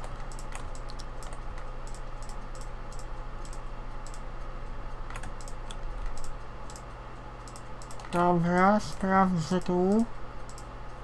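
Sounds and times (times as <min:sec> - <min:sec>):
computer keyboard clicking: 0:00.0 - 0:04.2, 0:05.0 - 0:10.7
mouse clicking: 0:00.0 - 0:04.3, 0:05.1 - 0:11.0
low steady hum: 0:00.0 - 0:11.0.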